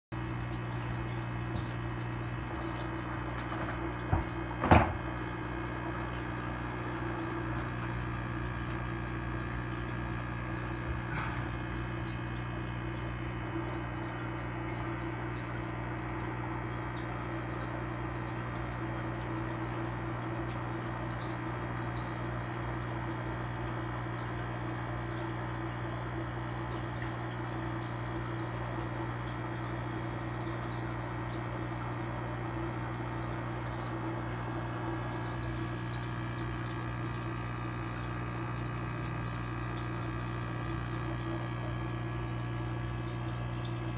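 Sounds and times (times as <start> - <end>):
aquarium pump humming: 0.1 - 43.9.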